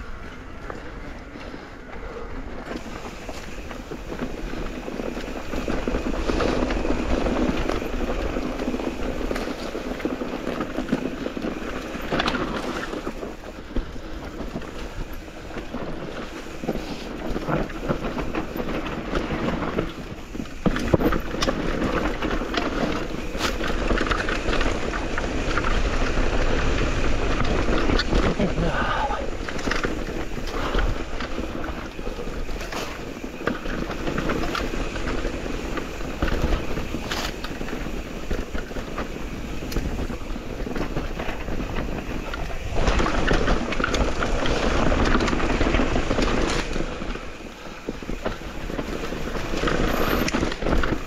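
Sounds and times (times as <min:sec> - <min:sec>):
bike rolling rattle: 0:00.0 - 0:51.0
wind buffeting microphone: 0:00.0 - 0:51.0.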